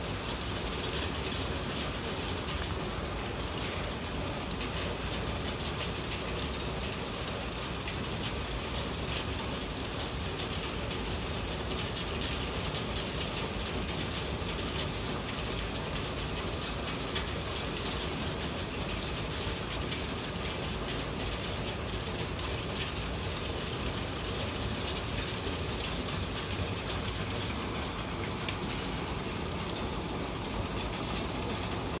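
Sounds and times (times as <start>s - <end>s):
rain on hard surfaces: 0.0s - 32.0s.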